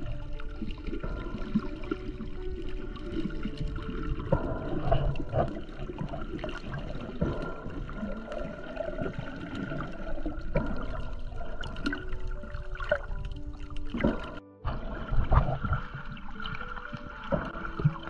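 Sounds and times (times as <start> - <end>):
underwater sloshing and gurgling: 0.0 - 18.0.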